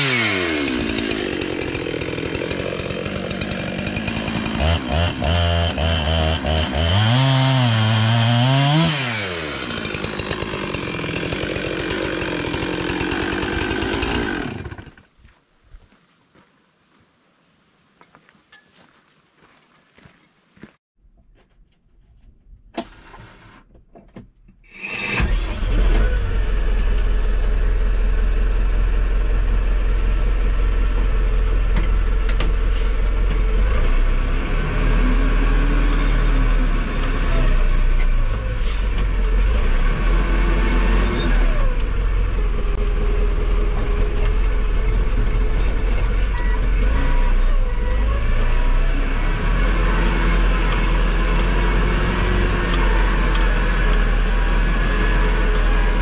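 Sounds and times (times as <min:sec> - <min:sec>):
loader engine running: 0:00.0 - 0:15.0, 0:25.2 - 0:56.0.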